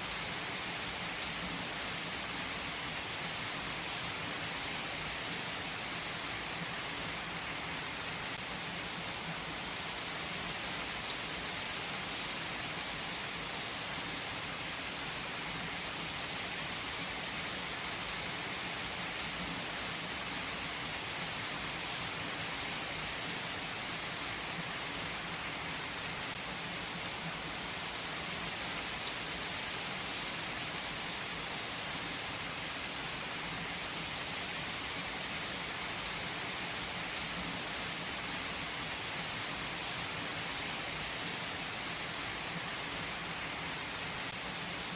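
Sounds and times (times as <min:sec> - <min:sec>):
heavy rain on leaves: 0:00.0 - 0:44.9.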